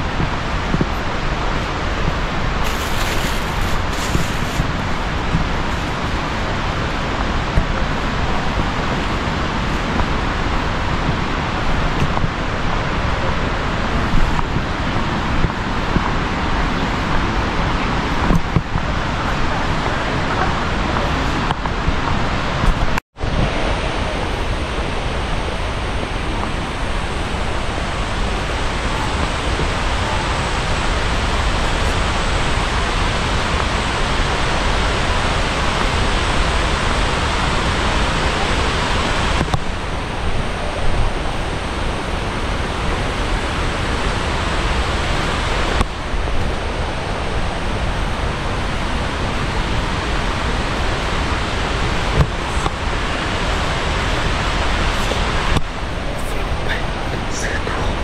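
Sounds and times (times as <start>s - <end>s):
waterfall pouring and splashing: 0.0s - 58.0s.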